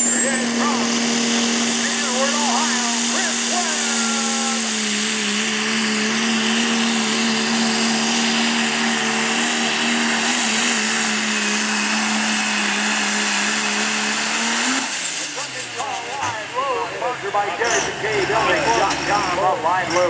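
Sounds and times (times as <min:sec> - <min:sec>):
truck diesel engine at high revs: 0:00.0 - 0:20.0.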